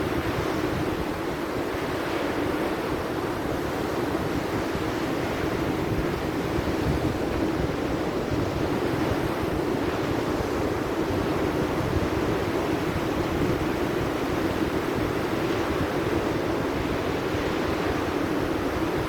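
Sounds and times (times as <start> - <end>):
sea surf: 0.0 - 19.0
wind buffeting the microphone: 0.0 - 19.0.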